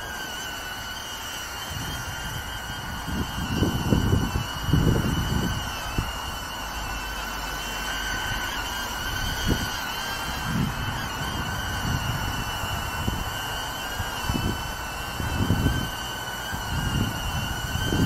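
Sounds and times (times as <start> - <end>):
drone propellers whining: 0.0 - 18.0
wind buffeting microphone: 0.0 - 18.0.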